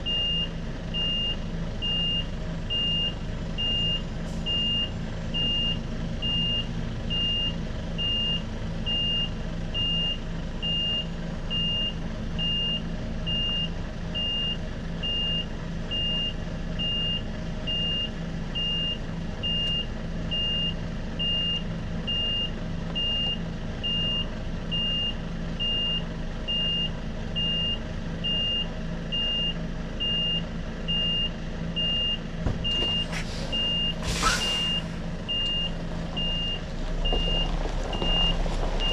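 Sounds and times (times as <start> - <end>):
diesel engine at low revs: 0.0 - 38.9
reversing alarm beeping: 0.1 - 38.9.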